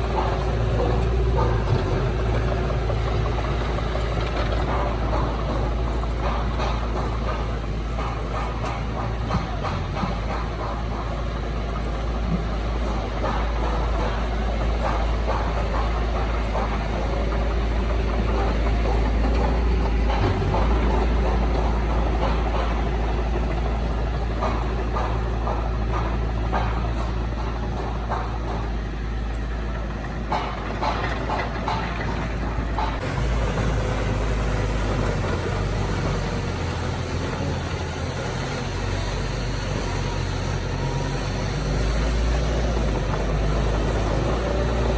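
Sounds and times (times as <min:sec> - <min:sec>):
heavy diesel machinery rumbling: 0:00.0 - 0:44.9
metal clanks and knocks: 0:00.0 - 0:44.9.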